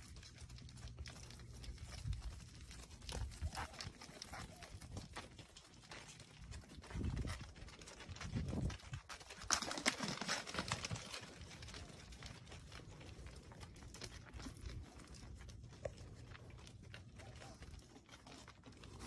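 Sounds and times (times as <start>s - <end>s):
deer hooves on concrete: 0.0s - 19.0s
rustling: 0.0s - 19.0s.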